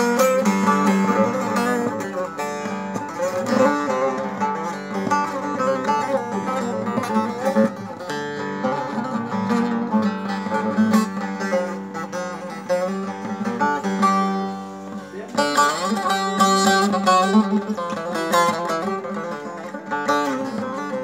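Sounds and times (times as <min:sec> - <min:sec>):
long-neck lute strummed quickly: 0:00.0 - 0:21.0.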